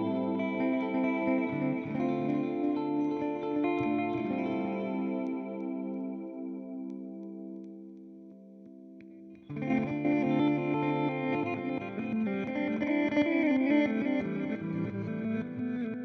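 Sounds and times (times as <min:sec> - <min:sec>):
electric guitar with delay: 0:00.0 - 0:16.0.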